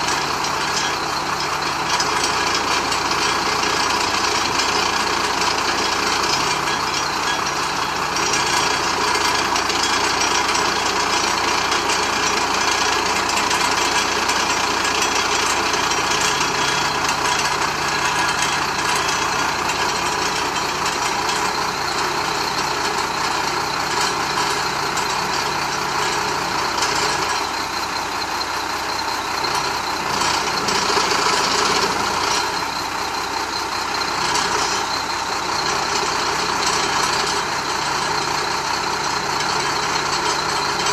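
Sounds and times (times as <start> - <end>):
diesel truck engine humming: 0.0 - 40.9.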